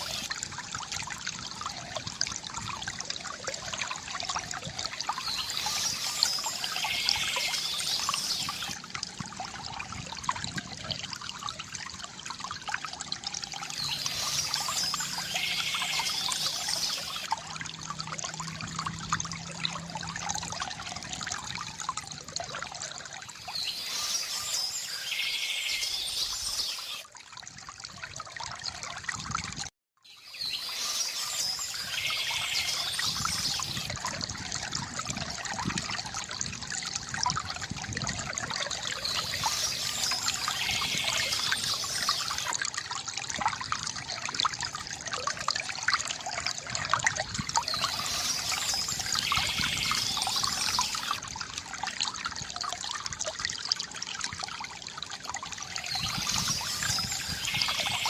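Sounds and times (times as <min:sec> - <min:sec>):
water trickling from fountain: 0:00.0 - 0:58.0.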